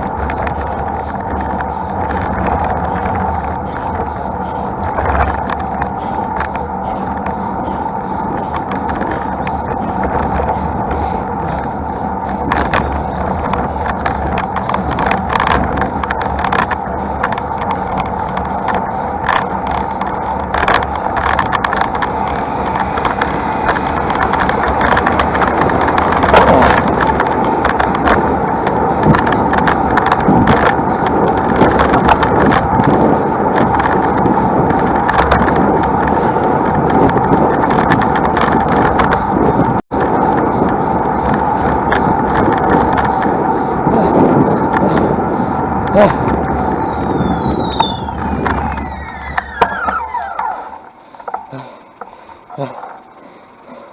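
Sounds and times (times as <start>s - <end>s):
bicycle riding noise: 0.0s - 53.9s
bike clicks and rattles: 0.0s - 53.9s.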